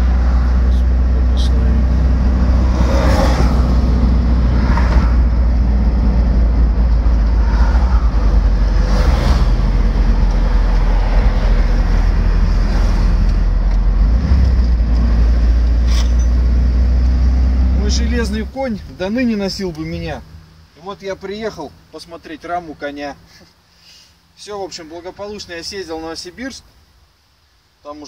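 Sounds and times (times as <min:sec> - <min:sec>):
vehicles passing by: 0:00.0 - 0:24.4
car engine and tyre rumble: 0:00.0 - 0:27.8.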